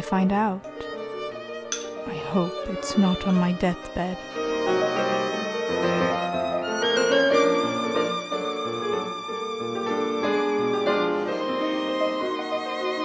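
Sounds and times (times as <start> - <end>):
violin melody: 0.4 - 13.0.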